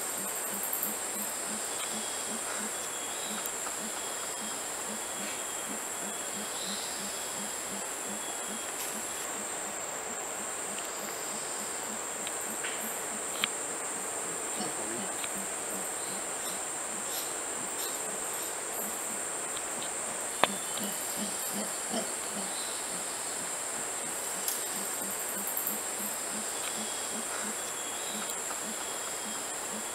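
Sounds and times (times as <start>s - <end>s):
insect chorus buzzing: 0.0s - 29.9s.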